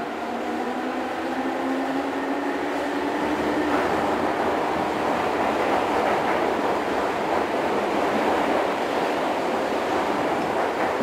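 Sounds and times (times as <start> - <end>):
wheels rushing on rail: 0.0 - 11.0
train running gear rumble: 2.0 - 11.0.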